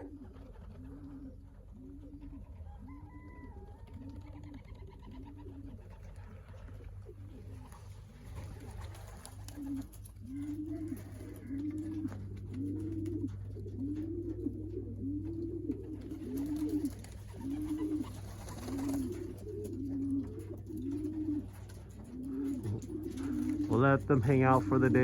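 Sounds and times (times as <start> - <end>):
pigeons cooing: 0.0 - 25.0
low hum: 4.2 - 25.0.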